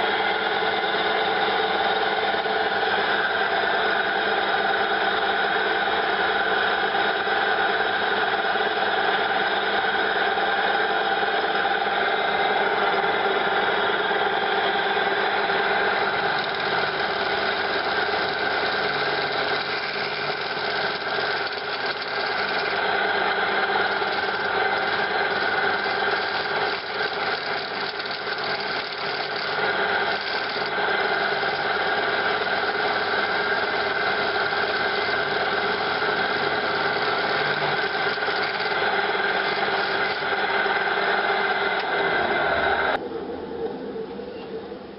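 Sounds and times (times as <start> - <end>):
chisel scraping spinning wood: 0.0 - 43.0
woodturning lathe running: 0.0 - 43.0.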